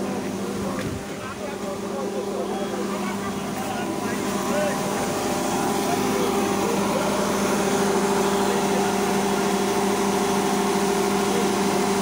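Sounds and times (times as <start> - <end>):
combine harvester engine hum: 0.0 - 12.0.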